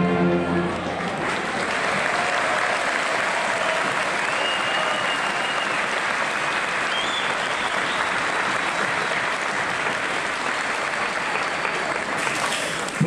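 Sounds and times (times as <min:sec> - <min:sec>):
crowd applauding: 0:00.3 - 0:13.0.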